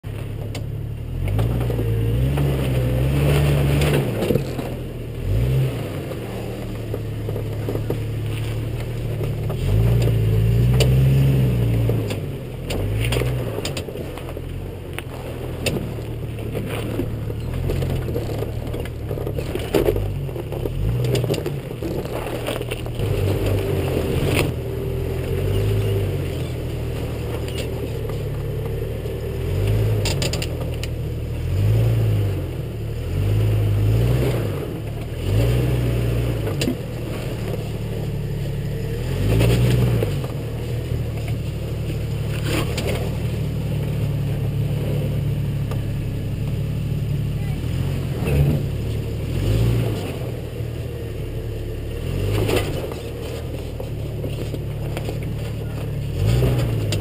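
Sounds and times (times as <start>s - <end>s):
tyres knocking and scraping rock: 0.0s - 31.7s, 34.1s - 46.6s, 52.0s - 57.0s
engine running at low revs: 0.0s - 57.0s.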